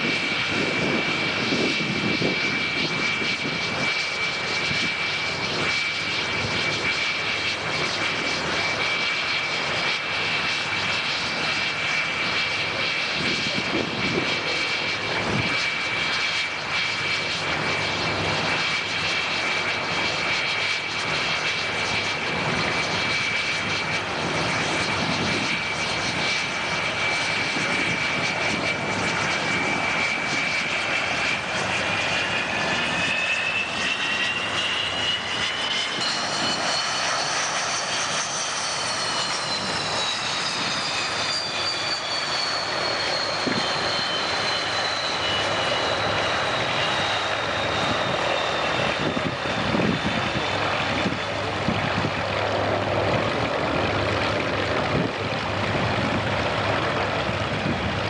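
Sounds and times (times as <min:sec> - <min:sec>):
propeller engines running: 0:00.0 - 0:58.0.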